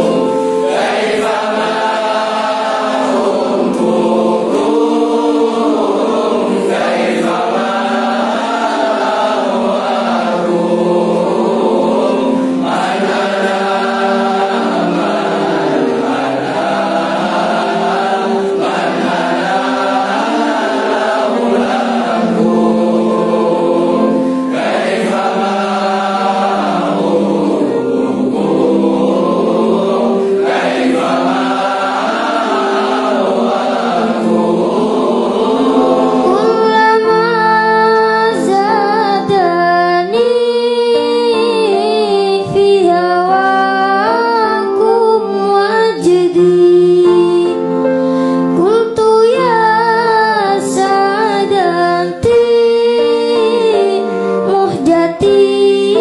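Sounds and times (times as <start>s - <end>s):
choir singing devotional song: 0.0s - 56.0s.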